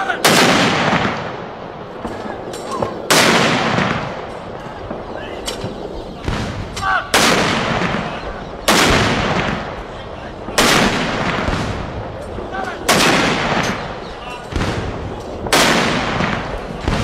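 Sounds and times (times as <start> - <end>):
field guns firing: 0.0 - 17.0
long rolling echo: 0.0 - 17.0.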